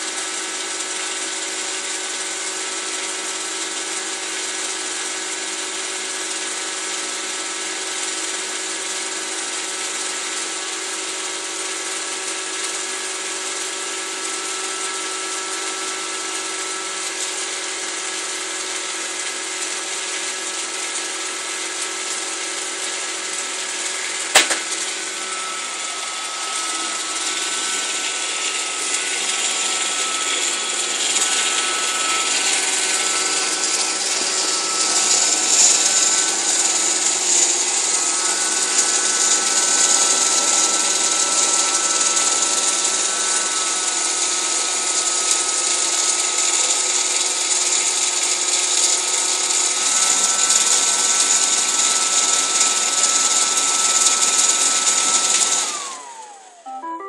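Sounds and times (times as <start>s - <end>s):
robot vacuum whirring: 7.2s - 56.6s.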